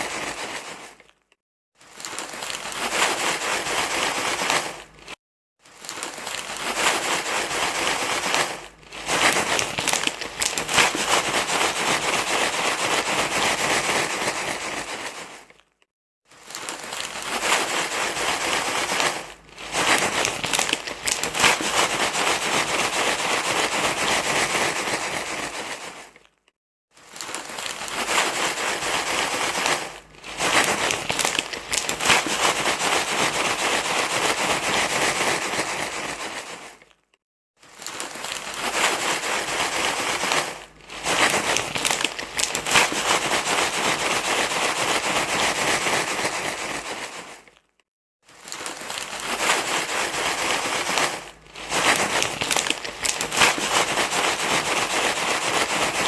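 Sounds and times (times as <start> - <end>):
crinkly rustling: 0.0 - 56.0.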